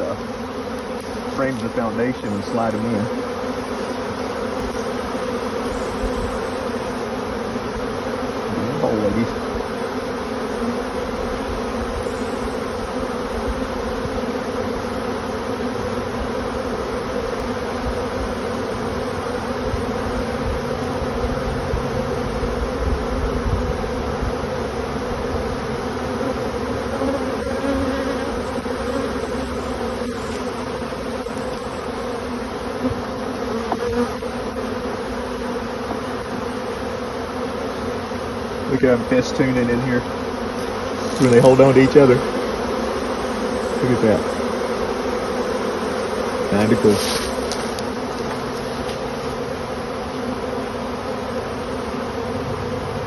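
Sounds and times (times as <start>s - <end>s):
bee swarm buzzing: 0.0s - 53.0s.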